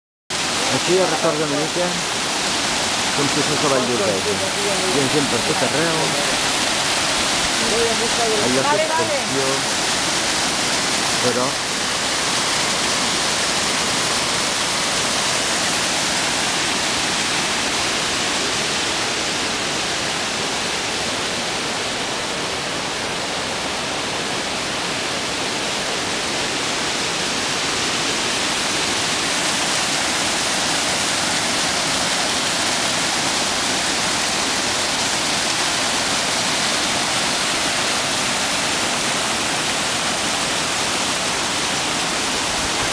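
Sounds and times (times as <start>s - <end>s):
waterfall rushing: 0.3s - 42.9s.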